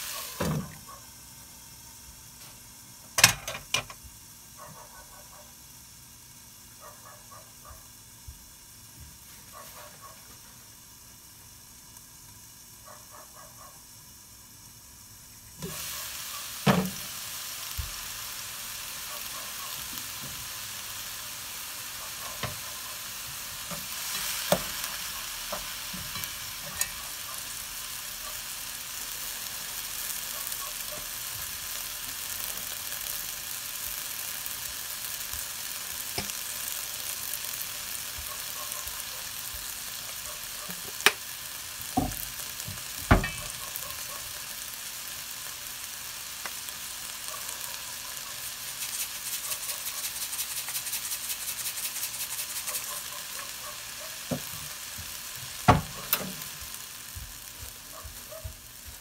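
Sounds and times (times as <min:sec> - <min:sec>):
loud sizzle in hot pan: 0:00.0 - 0:59.0.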